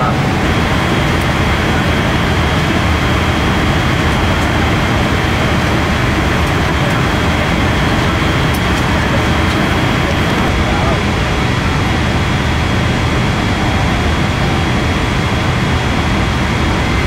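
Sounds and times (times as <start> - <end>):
airplane cabin airflow and engine noise: 0.0 - 17.0.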